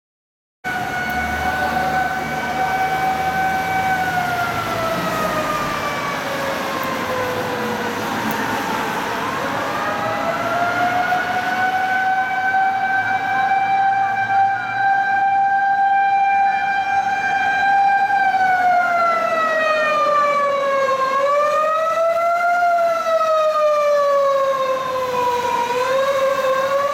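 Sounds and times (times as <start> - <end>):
fire engine siren wailing: 0.6 - 26.9.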